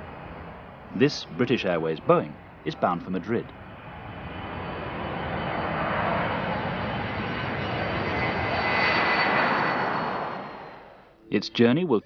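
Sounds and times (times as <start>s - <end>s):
jet engines rushing with whine: 0.0s - 11.2s.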